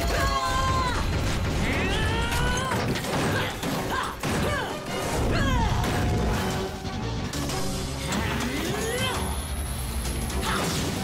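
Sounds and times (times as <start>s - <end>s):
action music: 0.0s - 11.0s.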